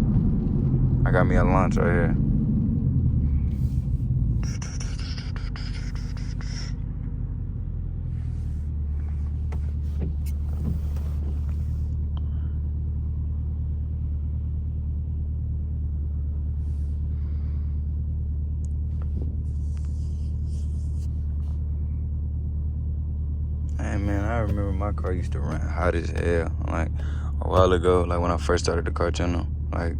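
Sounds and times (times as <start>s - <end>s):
engine low rumble: 0.0s - 29.9s.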